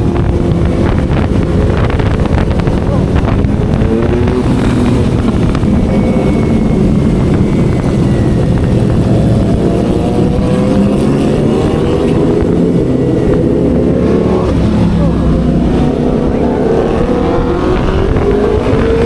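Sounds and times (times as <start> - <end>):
loud motorcycle engine: 0.0 - 19.0.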